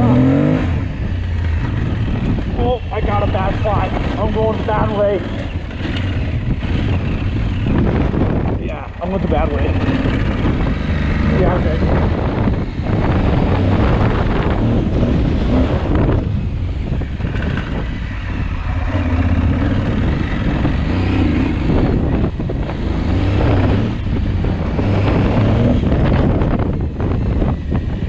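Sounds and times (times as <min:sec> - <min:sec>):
motorcycle engine revving: 0:00.0 - 0:28.0
wind buffeting microphone: 0:00.0 - 0:28.0.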